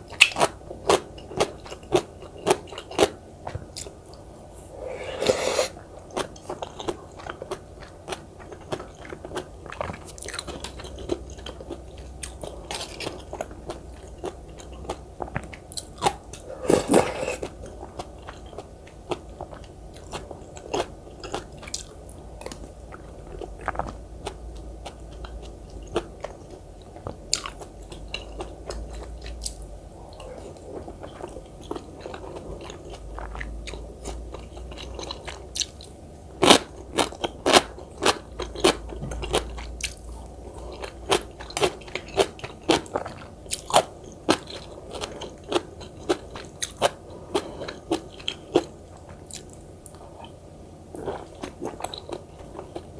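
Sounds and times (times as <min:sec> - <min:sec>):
chewing and biting food: 0:06.0 - 0:52.9.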